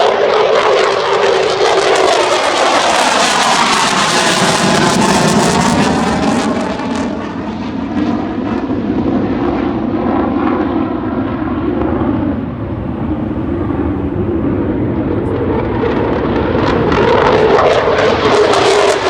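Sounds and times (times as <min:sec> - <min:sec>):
fighter jet roar: 0:00.0 - 0:19.0.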